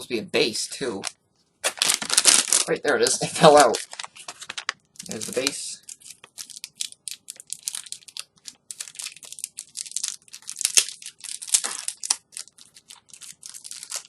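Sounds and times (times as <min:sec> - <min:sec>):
plastic packaging crinkling: 0:01.0 - 0:14.0.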